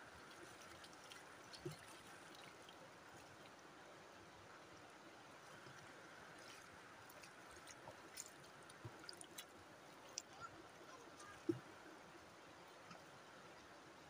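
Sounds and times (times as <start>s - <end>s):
small water splashes: 0.0s - 3.9s, 5.0s - 13.3s
shallow river water running: 0.0s - 14.0s.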